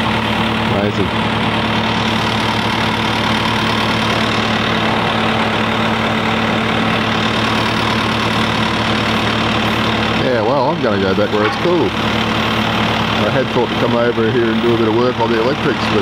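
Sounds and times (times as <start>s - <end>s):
loader engine idling: 0.0s - 16.0s.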